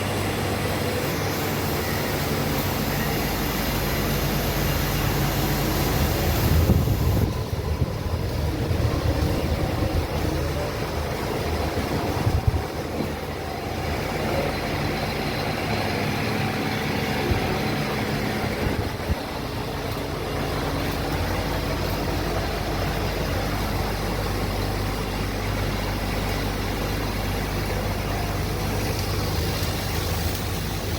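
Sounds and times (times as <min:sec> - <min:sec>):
industrial machines humming: 0:00.0 - 0:30.9.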